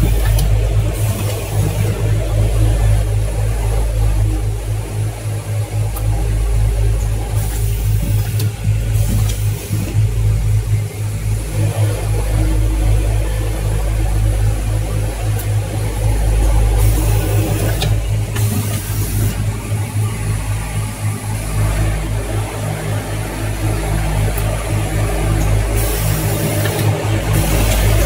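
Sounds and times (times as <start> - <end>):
machine hum pulsing rapidly: 0.0 - 28.0.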